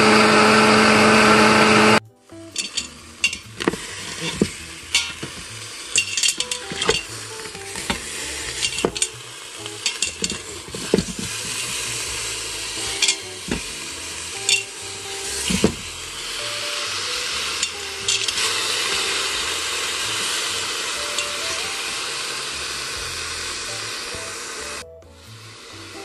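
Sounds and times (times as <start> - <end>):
utensil scraping a pot: 2.6 - 24.1
meat sizzling in oil: 2.6 - 24.8.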